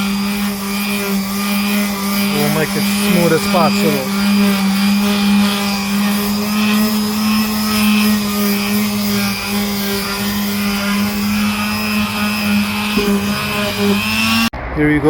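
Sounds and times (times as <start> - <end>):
power sander humming: 0.0 - 14.5.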